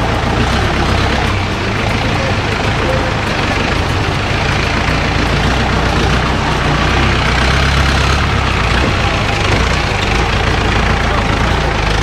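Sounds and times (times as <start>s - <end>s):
car engine rumbling: 0.0s - 12.0s
constant hiss: 0.0s - 12.0s.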